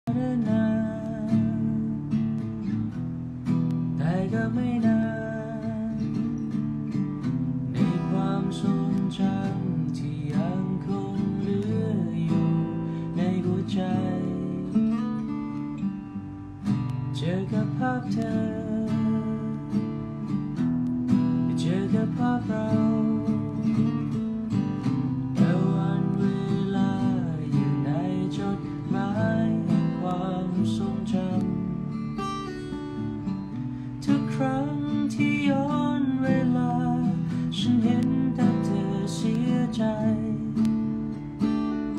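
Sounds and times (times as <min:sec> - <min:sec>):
acoustic guitar strumming: 0:00.0 - 0:41.9.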